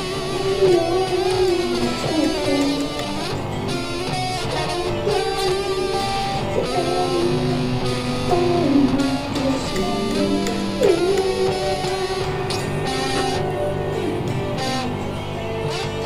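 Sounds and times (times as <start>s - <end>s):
guitar music strummed and plucked: 0.0s - 16.0s.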